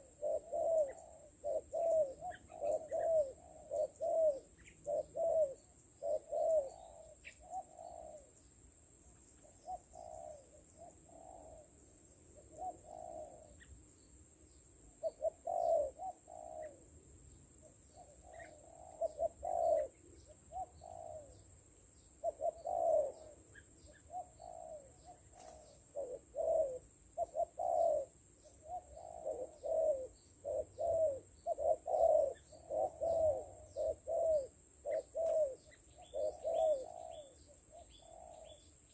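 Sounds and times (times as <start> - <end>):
doves cooing: 0.0 - 13.9, 14.8 - 38.9
faint high-pitched hiss: 0.0 - 38.9.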